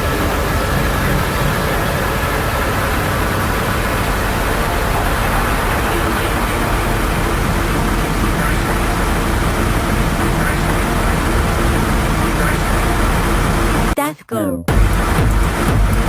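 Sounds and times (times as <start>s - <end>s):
ambient electronic noise texture: 0.0s - 14.0s, 14.7s - 16.0s.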